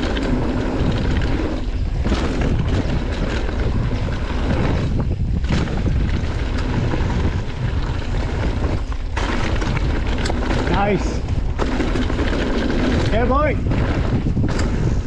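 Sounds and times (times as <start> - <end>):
bike knocks and rattles: 0.0 - 15.0
bike tyre rumble: 0.0 - 15.0
wind rushing over microphone: 0.0 - 15.0.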